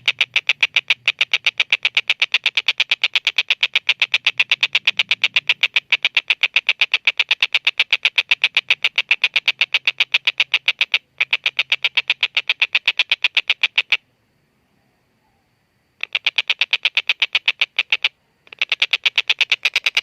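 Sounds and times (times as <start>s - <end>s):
kingfisher rattling call: 0.0s - 14.0s, 16.0s - 20.0s.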